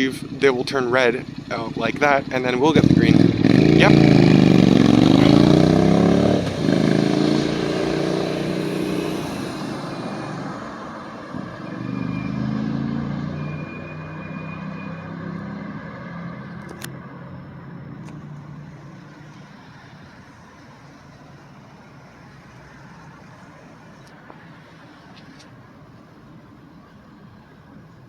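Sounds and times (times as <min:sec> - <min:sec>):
vehicle engine passing close: 0:00.0 - 0:23.9
quieter vehicle passing: 0:00.0 - 0:25.7
road traffic noise: 0:00.0 - 0:28.0.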